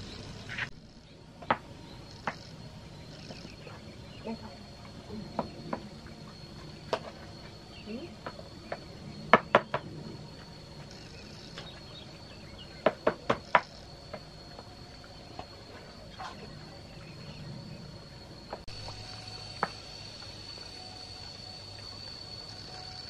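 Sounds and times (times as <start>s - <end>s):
steady high-pitched whine: 0.0s - 23.0s.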